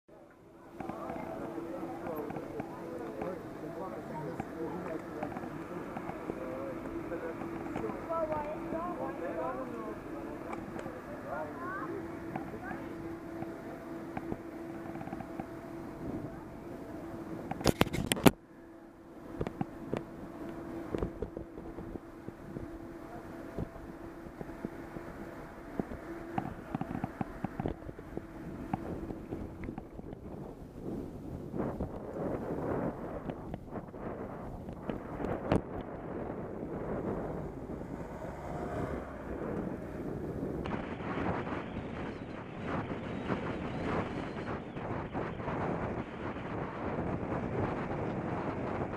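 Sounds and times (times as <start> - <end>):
faint steady hum: 0.1 - 48.9
wind noise on microphone: 0.6 - 48.9.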